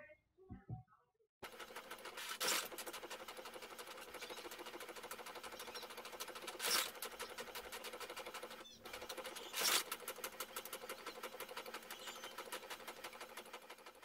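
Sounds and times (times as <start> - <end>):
inkjet printer ticking: 1.4 - 14.0.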